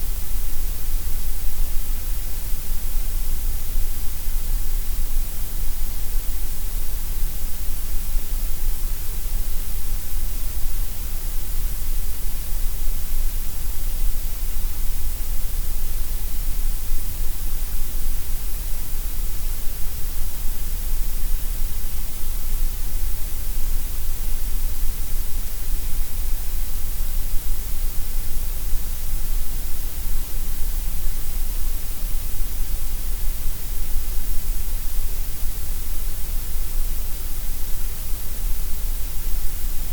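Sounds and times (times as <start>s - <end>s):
gray noise hiss: 0.0s - 39.9s.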